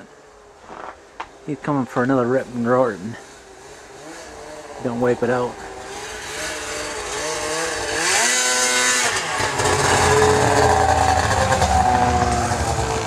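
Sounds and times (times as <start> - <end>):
snowmobile engine revving: 1.6 - 13.0.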